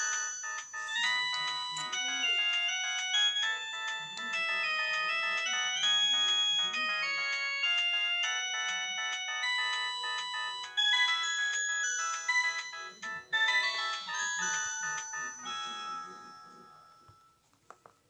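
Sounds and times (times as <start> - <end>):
polyphonic phone ringtone melody: 0.0 - 17.5.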